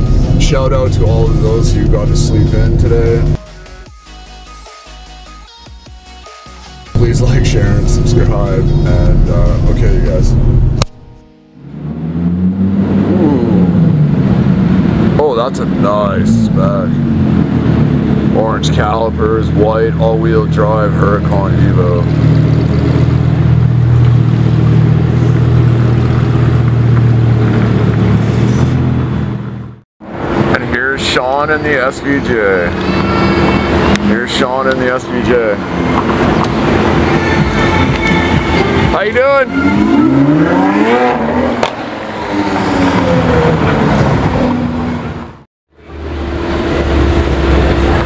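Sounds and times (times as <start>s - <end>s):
car engine rumbling at low revs: 0.0s - 3.4s, 7.0s - 11.0s, 11.6s - 48.0s.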